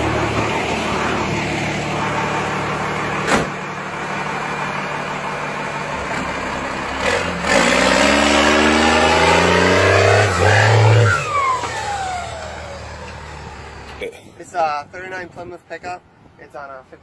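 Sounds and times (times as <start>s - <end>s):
truck engine idling and revving: 0.0s - 16.3s.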